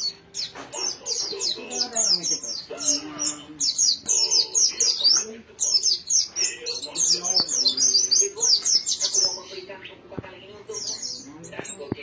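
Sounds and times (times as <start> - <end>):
bird chirping fast song: 0.0 - 12.0.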